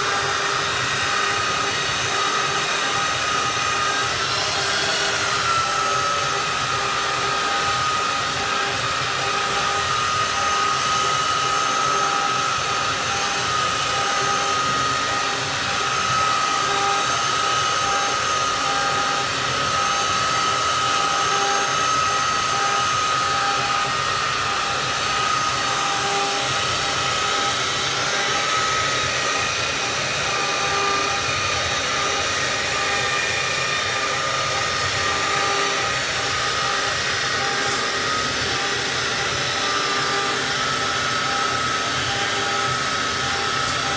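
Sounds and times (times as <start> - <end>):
belt sander motor whine: 0.0 - 43.9.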